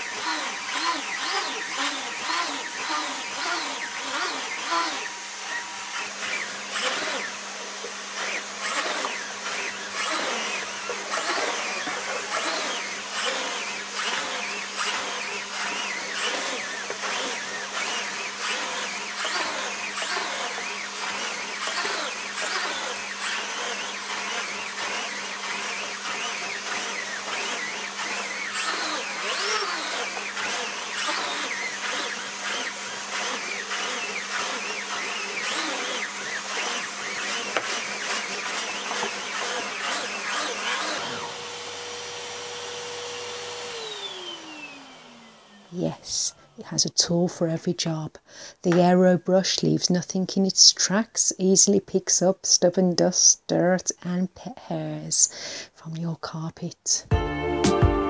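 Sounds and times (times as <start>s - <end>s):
vacuum cleaner motor hum: 0.0s - 46.8s.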